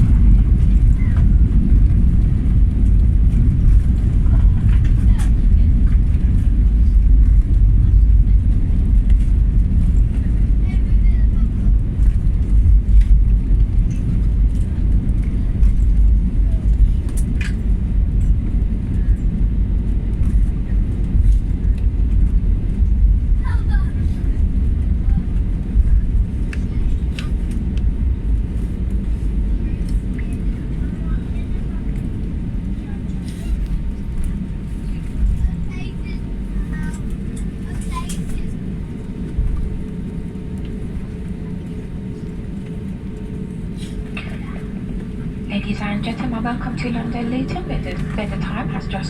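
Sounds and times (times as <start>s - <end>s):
airplane cabin rumble: 0.0s - 49.0s.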